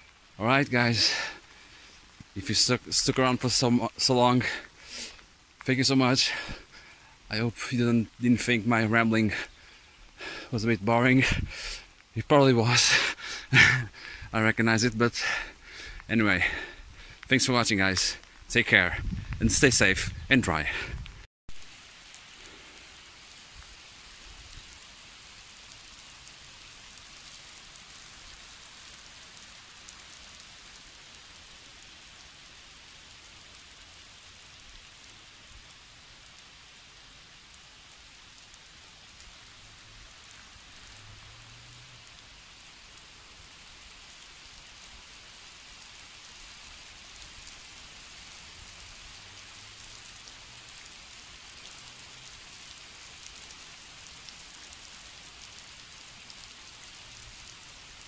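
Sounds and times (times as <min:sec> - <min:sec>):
rain falling on asphalt: 0:00.0 - 0:58.0.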